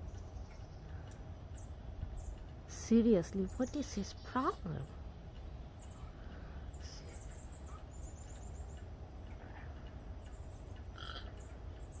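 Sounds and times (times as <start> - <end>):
low wind rumble: 0.0 - 12.0
small birds chirping: 0.0 - 12.0.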